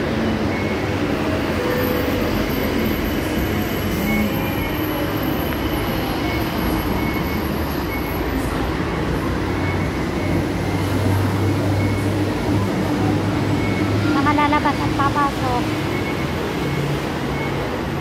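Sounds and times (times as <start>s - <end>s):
elevated rail station rumble: 0.0s - 18.0s
road traffic: 0.0s - 18.0s.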